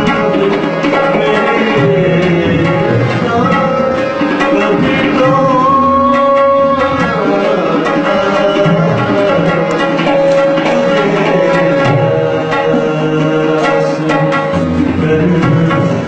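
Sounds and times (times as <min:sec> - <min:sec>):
tabla drumming: 0:00.0 - 0:16.0.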